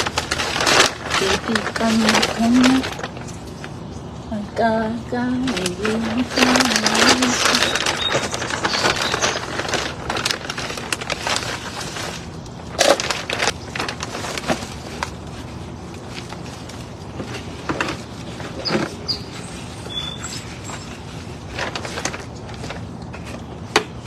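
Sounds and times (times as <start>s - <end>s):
crunching soil and roots handling: 0.0s - 4.4s, 5.3s - 24.0s.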